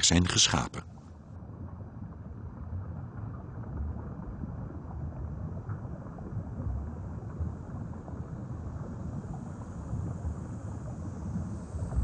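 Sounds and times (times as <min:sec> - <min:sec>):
low ambient rumbling: 0:00.0 - 0:12.0.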